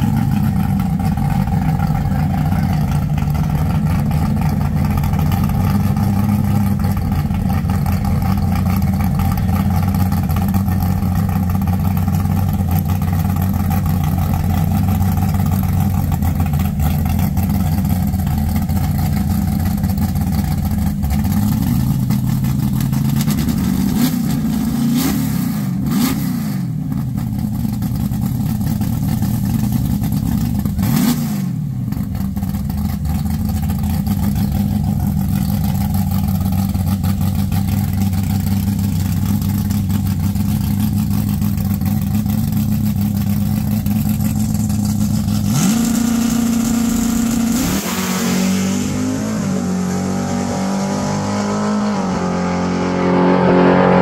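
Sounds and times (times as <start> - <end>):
car accelerating away: 0.0 - 54.0
car engine idling and revving: 0.0 - 54.0.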